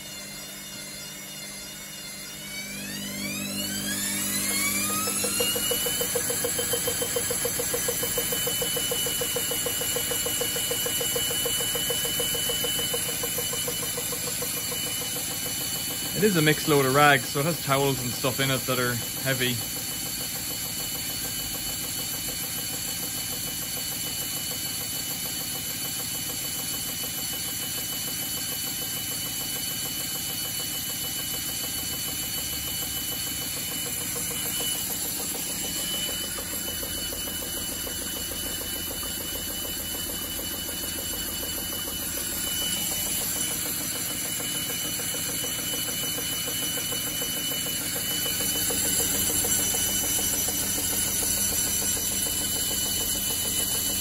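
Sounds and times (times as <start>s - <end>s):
washer-dryer motor whine: 0.0s - 54.0s.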